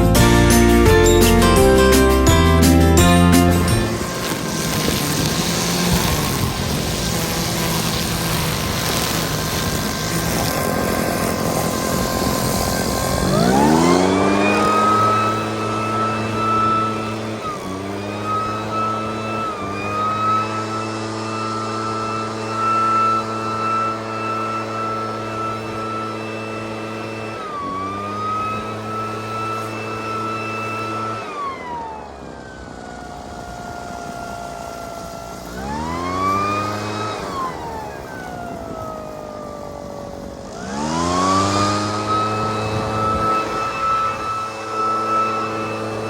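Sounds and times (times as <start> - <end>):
small gasoline engine revving: 0.0 - 46.0.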